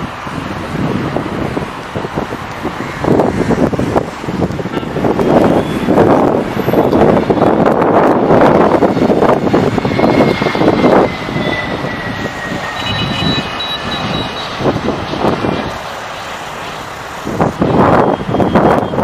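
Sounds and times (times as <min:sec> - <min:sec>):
jet engine rush: 0:00.0 - 0:19.0
jet engine whine falling in pitch: 0:00.0 - 0:19.0.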